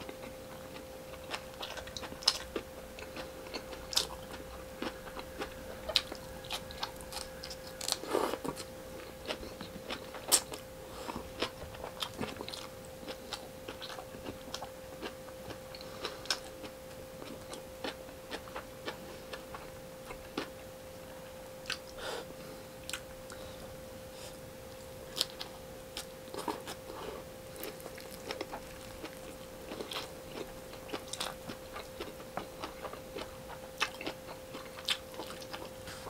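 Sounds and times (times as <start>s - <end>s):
chewing and biting food: 0.0s - 20.6s, 24.8s - 36.0s
faint steady hum: 0.0s - 36.0s.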